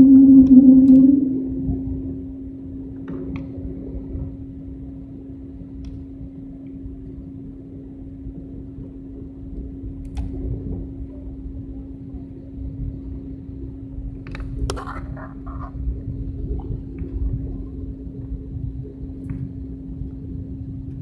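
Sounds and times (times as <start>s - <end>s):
airliner cabin rumble: 0.0s - 21.0s.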